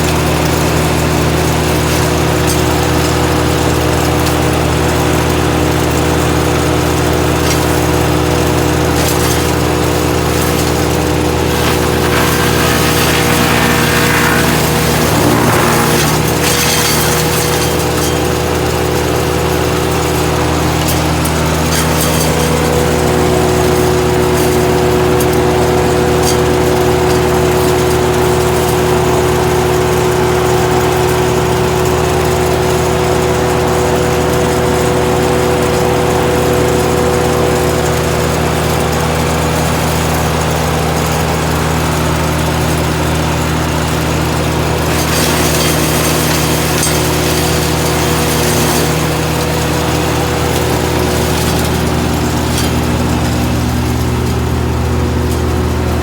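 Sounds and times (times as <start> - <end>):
wood chipper engine running: 0.0 - 56.0.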